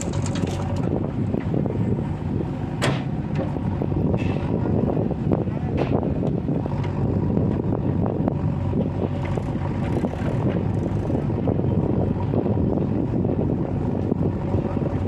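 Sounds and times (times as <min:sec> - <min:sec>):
diesel engine of heavy machinery: 0:00.0 - 0:15.0.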